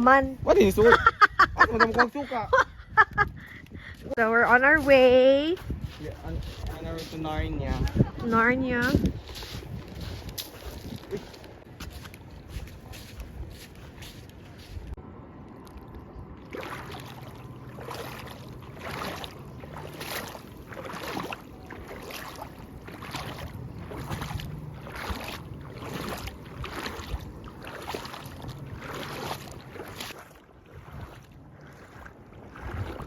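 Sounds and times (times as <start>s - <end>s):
wind on microphone: 0.0s - 15.0s, 15.9s - 33.0s
footsteps splashing in shallow water: 3.4s - 33.0s.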